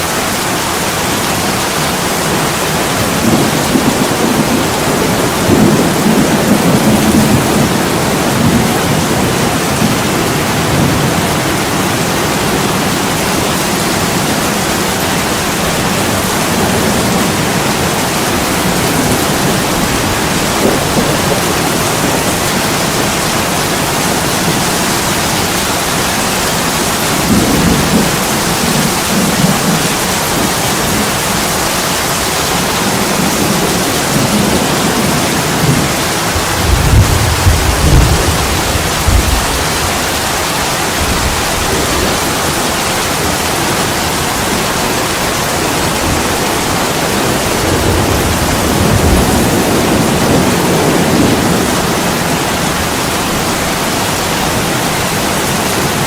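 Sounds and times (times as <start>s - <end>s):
heavy rain on a window: 0.0s - 56.0s.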